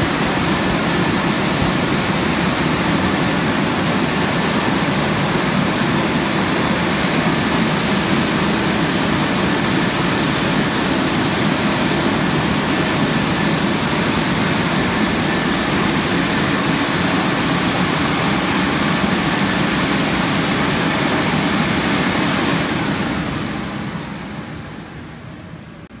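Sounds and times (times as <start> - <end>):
dryer blowers rushing air: 0.0 - 26.0.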